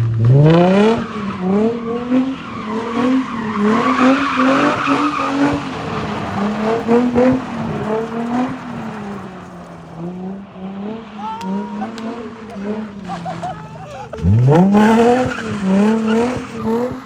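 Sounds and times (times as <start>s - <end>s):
car engine revving: 0.0s - 17.0s
tyres skidding with squeal: 0.3s - 17.0s.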